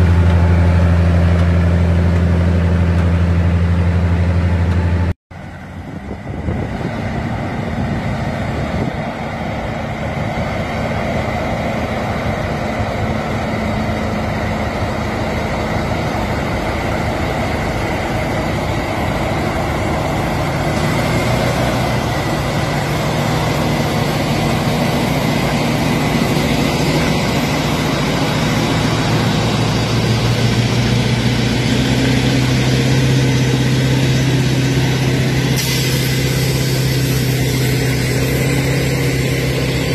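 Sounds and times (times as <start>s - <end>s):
heavy diesel engines droning: 0.0s - 39.9s.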